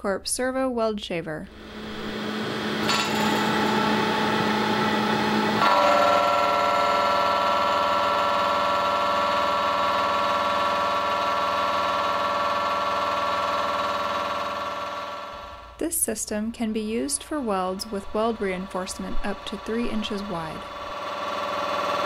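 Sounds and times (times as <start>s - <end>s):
milling machine whine: 1.5s - 15.8s, 17.2s - 22.0s.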